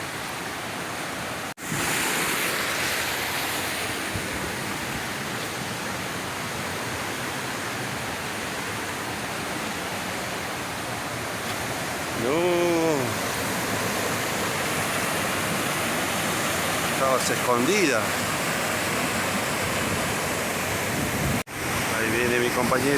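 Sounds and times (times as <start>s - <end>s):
small waterfall rushing: 0.0s - 22.9s.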